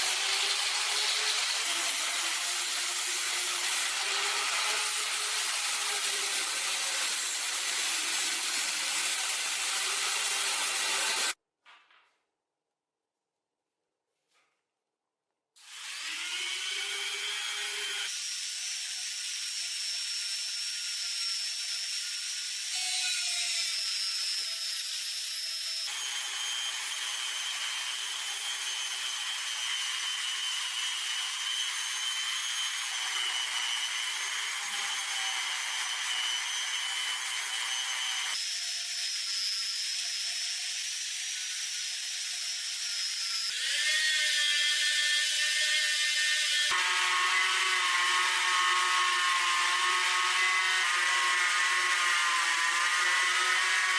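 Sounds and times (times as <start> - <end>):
power tool grinding metal: 0.0 - 11.4, 15.6 - 53.9.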